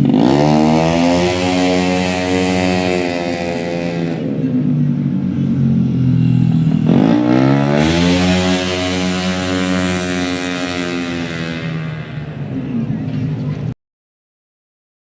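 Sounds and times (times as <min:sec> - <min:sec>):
scooter engine revving: 0:00.0 - 0:13.4.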